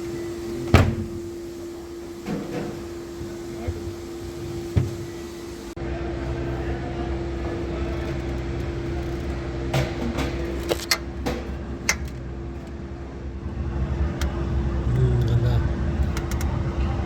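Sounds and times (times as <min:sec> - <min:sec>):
small car engine humming: 0:00.0 - 0:17.0.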